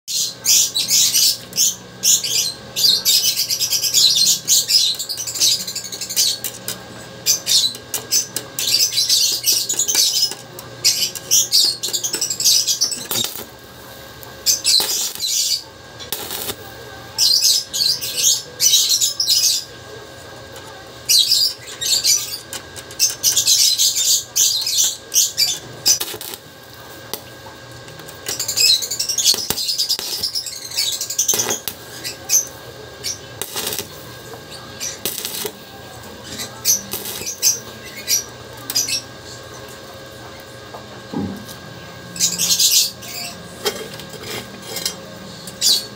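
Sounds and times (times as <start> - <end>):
welding arc crackling and sizzling: 0.1 - 45.9.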